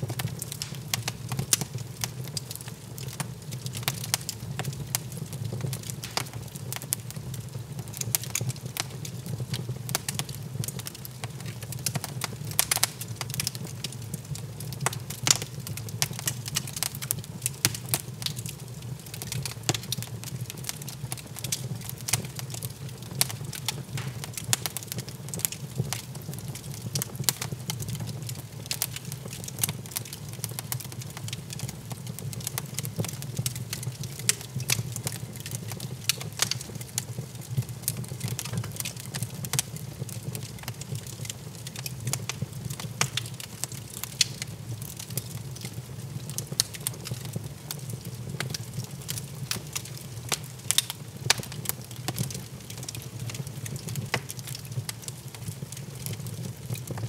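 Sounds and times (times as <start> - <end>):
fire pops and snaps: 0.0 - 57.0
low fire rumble: 0.0 - 57.0
wood fire crackling: 0.0 - 57.0.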